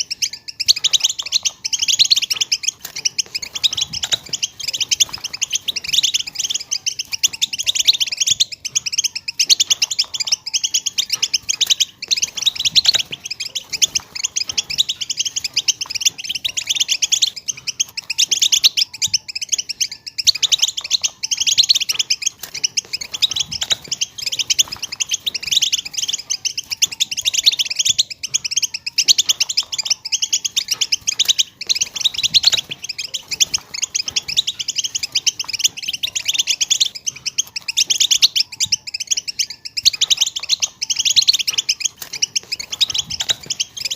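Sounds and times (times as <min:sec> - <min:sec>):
goldfinches twittering: 0:00.0 - 0:43.9.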